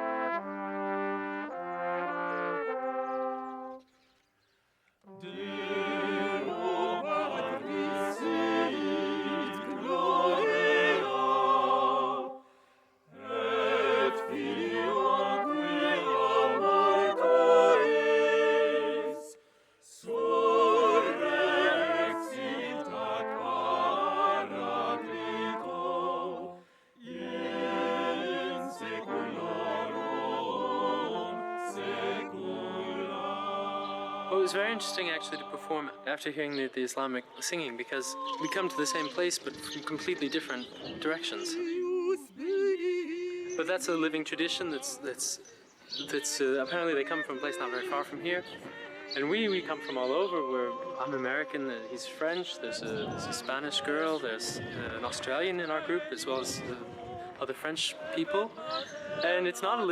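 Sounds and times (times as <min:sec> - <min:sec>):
vocal ensemble singing chant: 0:05.1 - 0:59.9.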